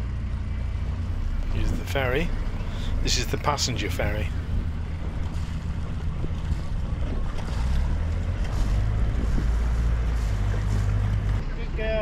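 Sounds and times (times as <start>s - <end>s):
boat engine rumbling: 0.6s - 12.0s.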